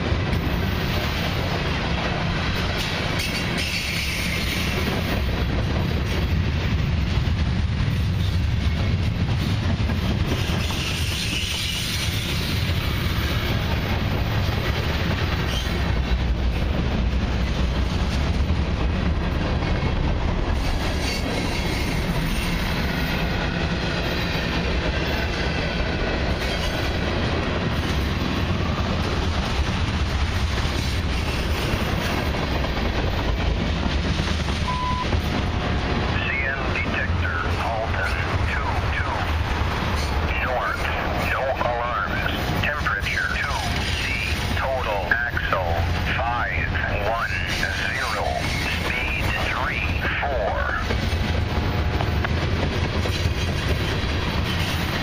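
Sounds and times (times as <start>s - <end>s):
freight train wheels clattering: 0.0s - 41.2s, 43.4s - 44.6s, 47.4s - 50.0s, 50.8s - 55.0s.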